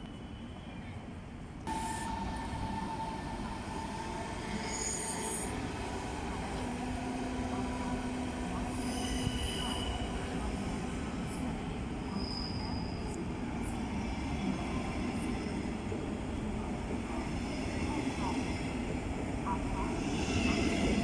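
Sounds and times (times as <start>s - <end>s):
train rumbling: 1.5s - 21.0s.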